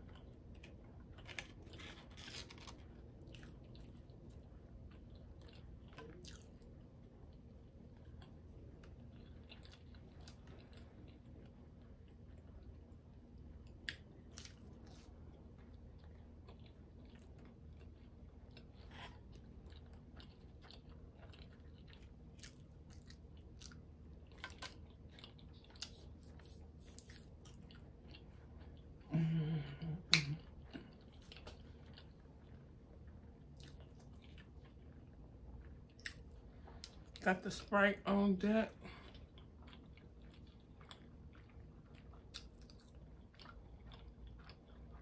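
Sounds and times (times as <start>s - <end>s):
chewing and mouth sounds: 0.0s - 37.3s, 38.7s - 45.0s.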